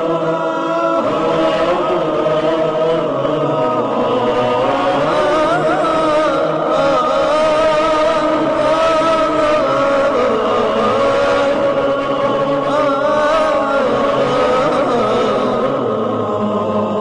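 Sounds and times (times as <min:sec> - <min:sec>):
wordless vocal chanting: 0:00.0 - 0:17.0.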